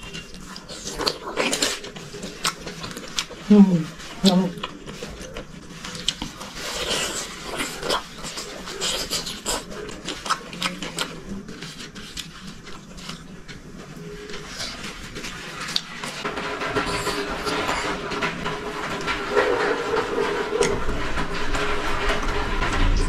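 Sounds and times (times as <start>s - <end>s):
chewing and smacking: 0.0s - 21.0s.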